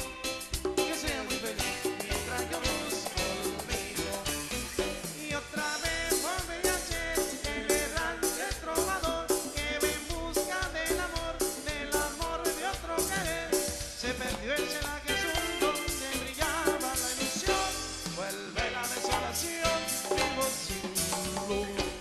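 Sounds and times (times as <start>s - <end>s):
tropical dance band music: 0.0s - 22.0s.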